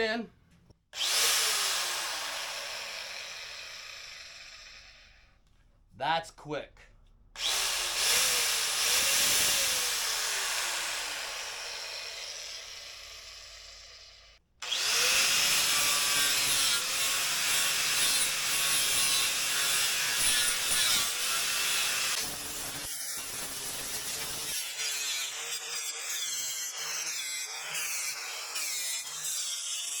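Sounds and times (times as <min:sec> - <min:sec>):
angle grinder running: 0:01.0 - 0:05.2, 0:07.4 - 0:30.0.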